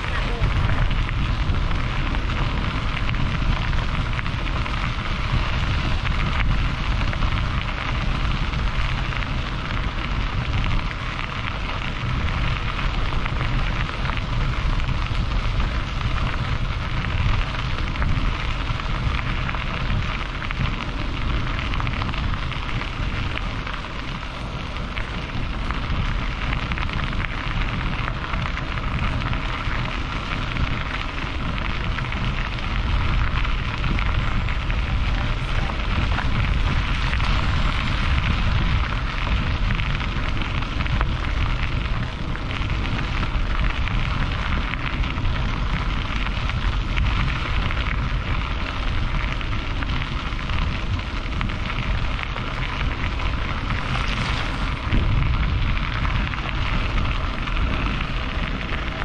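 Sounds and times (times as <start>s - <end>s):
low rumble: 0.0s - 59.0s
wind buffeting microphone: 0.0s - 59.0s.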